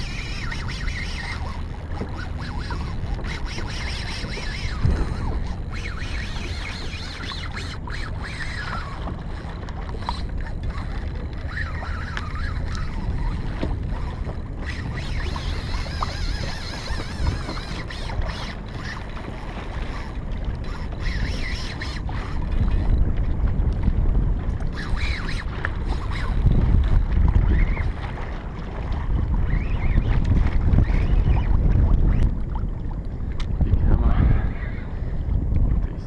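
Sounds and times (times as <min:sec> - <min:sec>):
water splashing against kayak hull: 0:00.0 - 0:36.0
wind buffeting microphone: 0:00.0 - 0:36.0.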